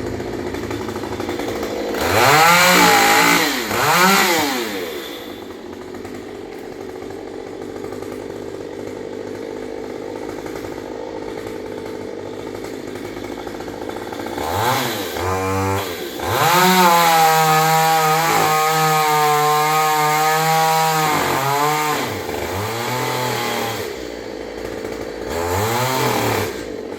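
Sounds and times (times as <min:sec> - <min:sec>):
chainsaw engine revving: 0:00.0 - 0:26.9.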